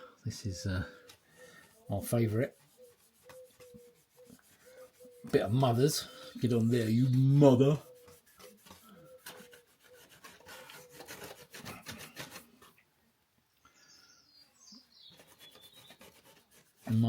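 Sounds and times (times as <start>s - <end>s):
hand rubbing polish on metal: 0.5s - 12.8s, 15.0s - 17.0s.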